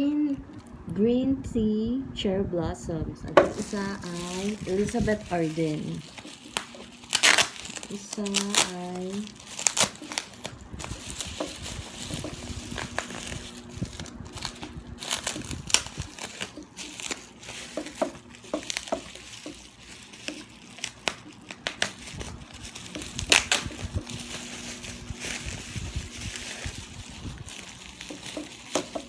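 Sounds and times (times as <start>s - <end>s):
packaging crinkling: 3.4s - 29.0s.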